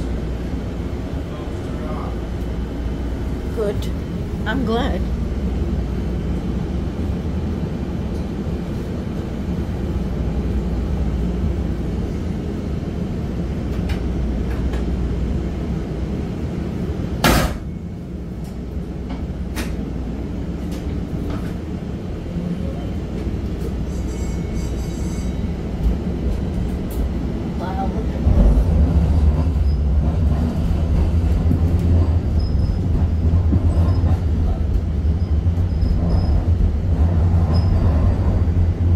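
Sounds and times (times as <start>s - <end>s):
light rail car rumbling: 0.0s - 38.9s.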